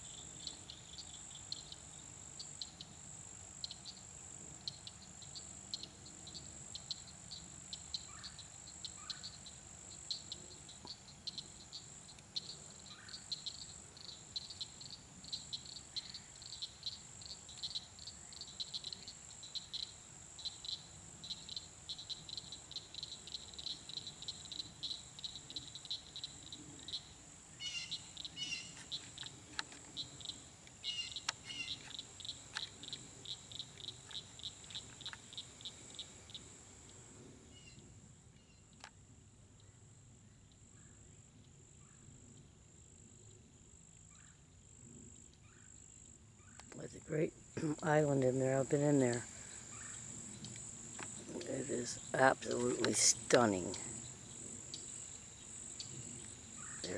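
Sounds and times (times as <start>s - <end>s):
frog or bird chirping calls: 0.0s - 3.0s, 4.6s - 36.5s, 45.4s - 56.9s
insects chirping: 0.0s - 56.9s.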